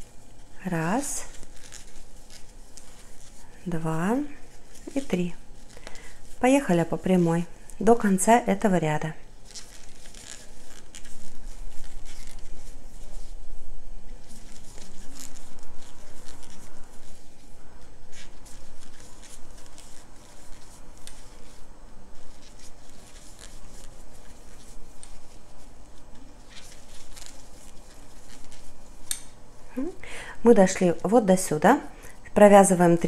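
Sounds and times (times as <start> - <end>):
cord rustling against crochet hook: 0.0 - 31.7.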